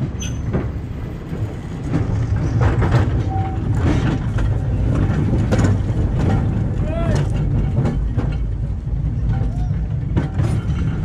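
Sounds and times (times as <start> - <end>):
sharp clacks of wheels: 0.0 - 11.0
streetcar wheels rumbling on rails: 0.0 - 11.0.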